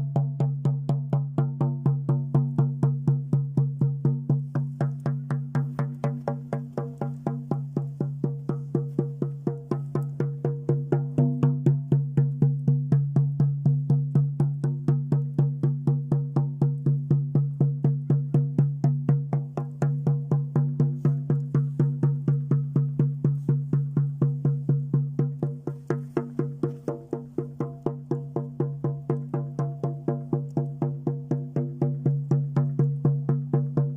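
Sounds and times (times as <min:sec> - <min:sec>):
drum beaten in steady rhythm: 0:00.0 - 0:33.9.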